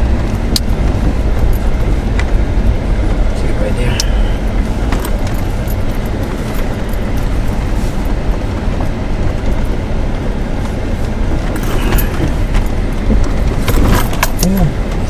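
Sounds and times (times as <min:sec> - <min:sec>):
light clattering and rattles: 0:00.0 - 0:15.0
low engine rumble: 0:00.0 - 0:15.0.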